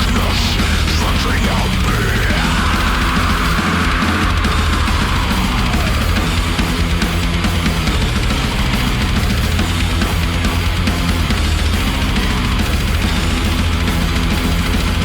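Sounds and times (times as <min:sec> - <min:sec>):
heavy metal song: 0:00.0 - 0:15.0.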